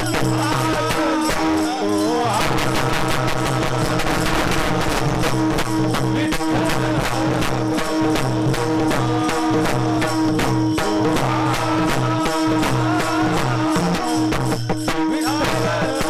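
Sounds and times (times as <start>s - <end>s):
quick percussion beat: 0.0s - 16.0s.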